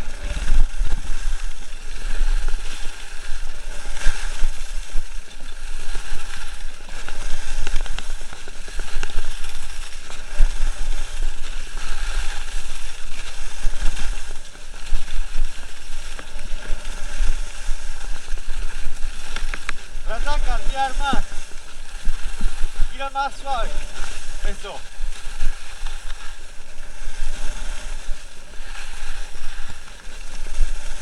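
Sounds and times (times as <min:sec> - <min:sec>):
skis scraping on packed snow: 0:00.0 - 0:31.0.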